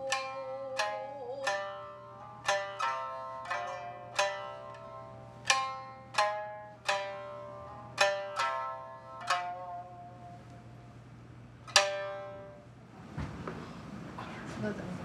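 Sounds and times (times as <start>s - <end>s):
shamisen notes plucked: 0.0s - 12.8s.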